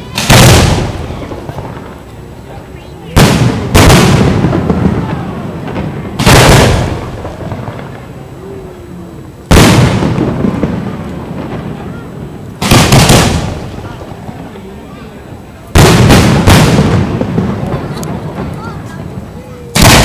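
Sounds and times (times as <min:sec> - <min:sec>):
firework booms with rumbling echo: 0:00.0 - 0:08.4, 0:09.4 - 0:20.0.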